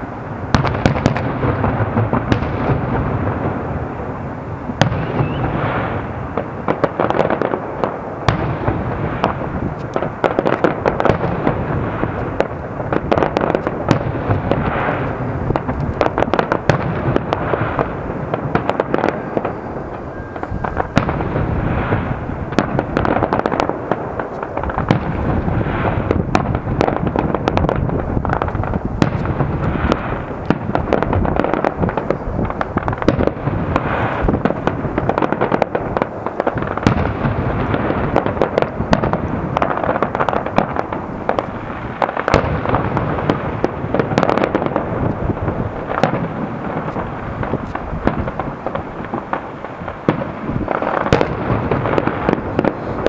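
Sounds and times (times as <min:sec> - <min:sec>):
fireworks crackling and banging: 0:00.0 - 0:53.0.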